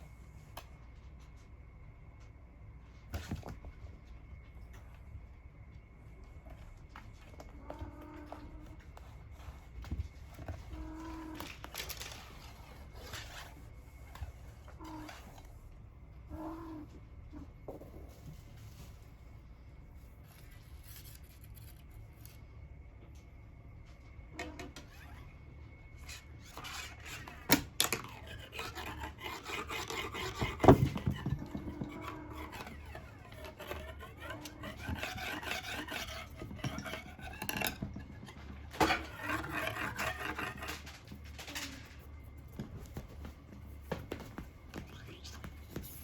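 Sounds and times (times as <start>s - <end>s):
cats scratching carpet: 0.0s - 46.0s.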